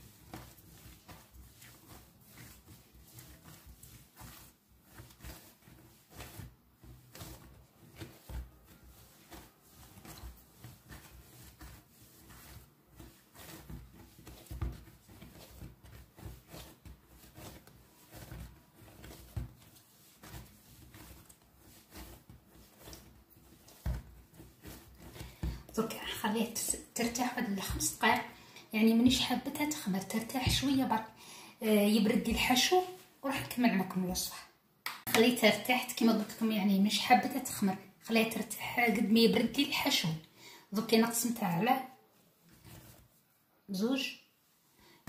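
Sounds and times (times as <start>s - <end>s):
dough kneaded by hand: 0.0s - 45.0s.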